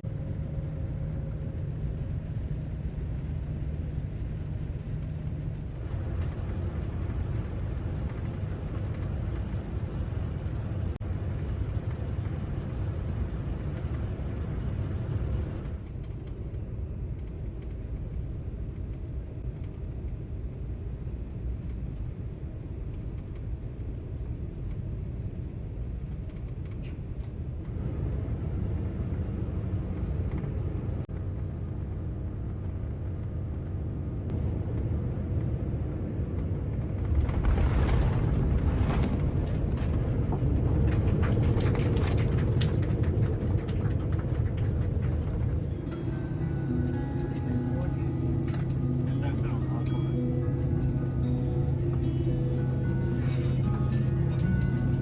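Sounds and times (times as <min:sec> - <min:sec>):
airliner cabin rumble: 0:00.0 - 0:31.9, 0:32.5 - 0:55.0.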